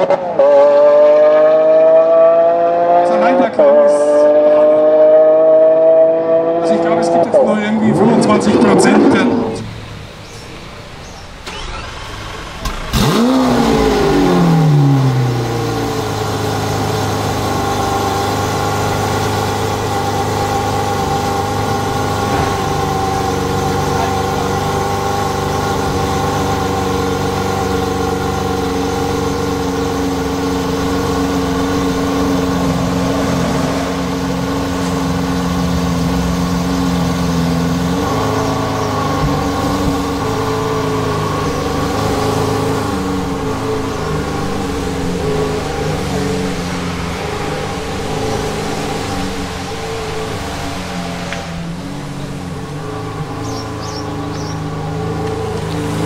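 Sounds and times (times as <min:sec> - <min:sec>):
sports car engine revving and idling: 0:00.0 - 0:56.0.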